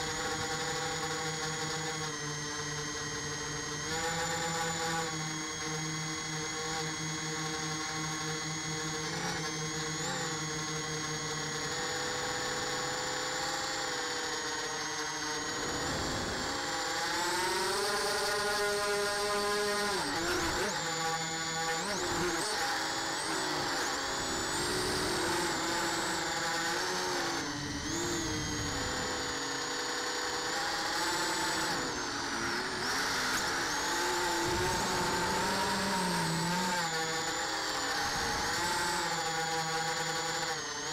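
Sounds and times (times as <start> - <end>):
drone propellers whining: 0.0 - 40.9.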